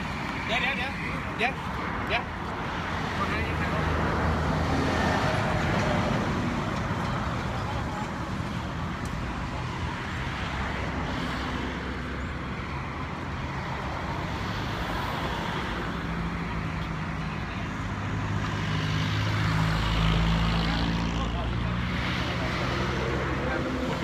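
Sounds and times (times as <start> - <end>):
passing cars and trucks: 0.0 - 24.0.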